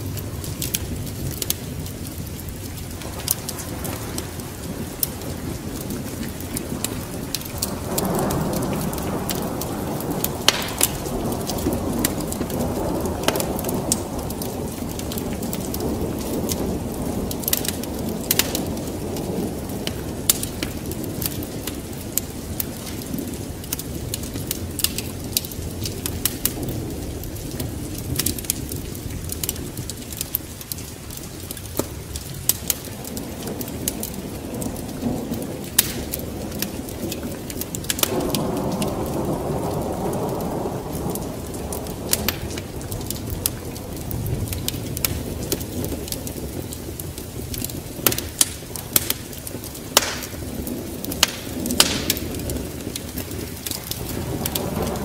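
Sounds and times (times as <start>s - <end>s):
rain: 0.0s - 55.0s
rolling thunder: 0.0s - 55.0s
wood fire crackling and popping: 0.0s - 55.0s.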